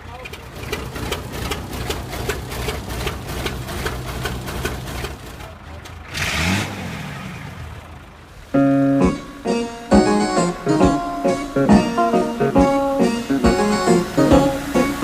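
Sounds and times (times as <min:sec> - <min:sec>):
truck engine clattering: 0:00.0 - 0:15.0.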